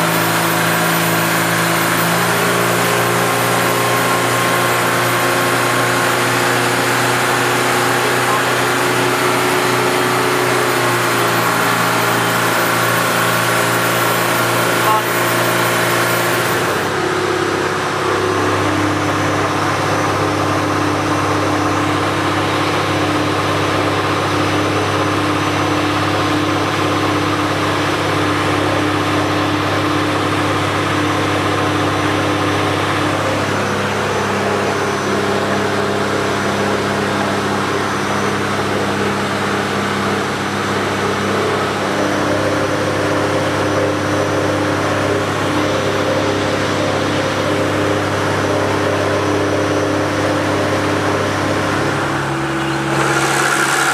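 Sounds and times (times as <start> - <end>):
boat diesel engine running: 0.0 - 53.9.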